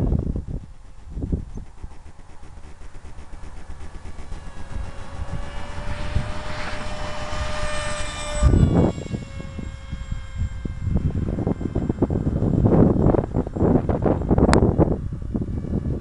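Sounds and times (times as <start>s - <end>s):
model aircraft motor whining: 0.0s - 16.0s
wind buffeting microphone: 0.0s - 16.0s.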